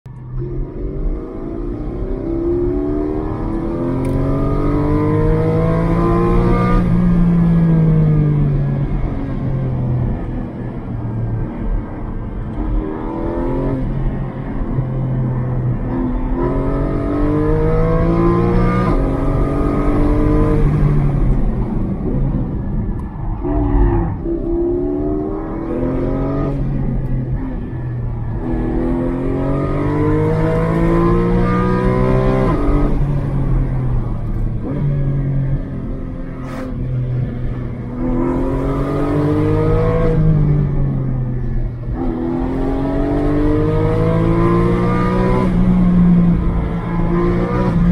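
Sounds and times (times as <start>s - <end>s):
car engine accelerating: 0.1s - 47.9s
tyre and road noise: 0.1s - 47.9s.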